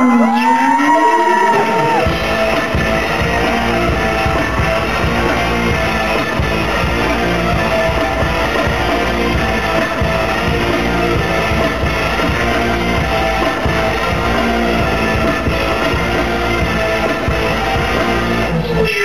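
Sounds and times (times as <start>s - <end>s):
rock track with drums and guitar: 0.1s - 18.9s.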